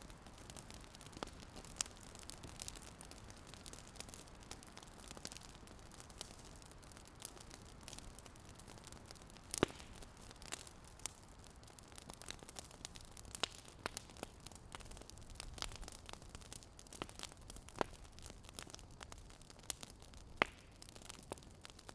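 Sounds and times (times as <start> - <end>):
fire crackling and popping: 0.0 - 21.9.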